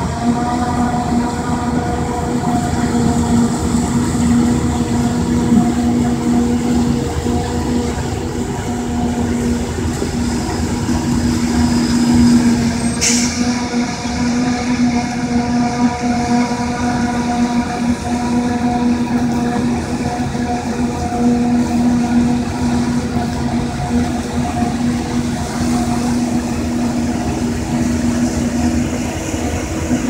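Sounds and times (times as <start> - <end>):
forage harvester engine drone: 0.0 - 30.0
harvester whine: 0.0 - 30.0
tractor running: 0.0 - 30.0.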